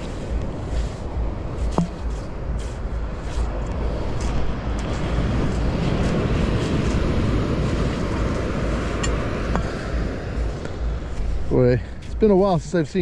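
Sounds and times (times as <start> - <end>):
ocean surf: 0.0 - 13.0
wind on microphone: 0.0 - 13.0.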